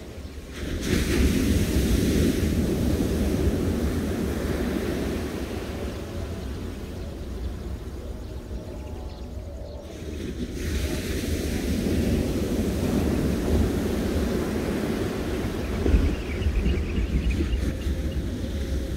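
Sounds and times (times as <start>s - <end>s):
ocean surf breaking on beach: 0.0s - 8.6s, 9.2s - 18.9s
wind rumbling on microphone: 0.0s - 18.9s.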